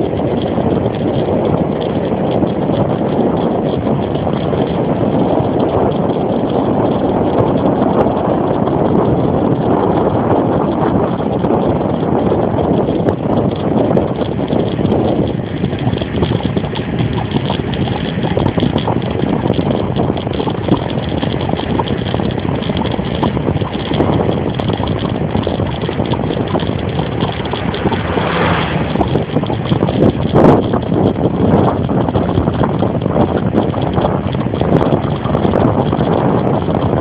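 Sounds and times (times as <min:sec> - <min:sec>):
bicycle rattling and knocking: 0:00.0 - 0:37.0
wind rushing over microphone: 0:00.0 - 0:37.0.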